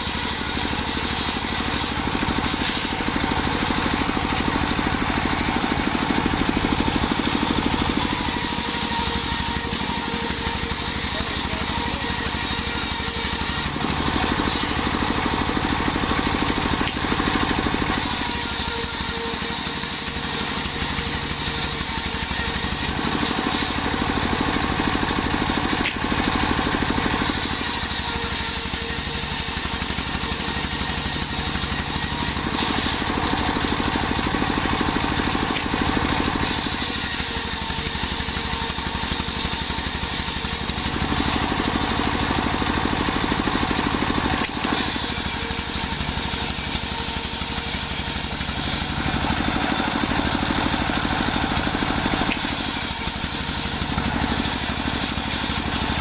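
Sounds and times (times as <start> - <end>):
circular saw ripping wood: 0.0 - 56.0
diesel engine running: 0.0 - 56.0.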